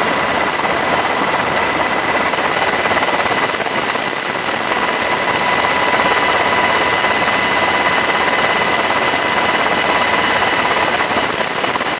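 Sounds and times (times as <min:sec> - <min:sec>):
helicopter engine and rotor noise: 0:00.0 - 0:11.9.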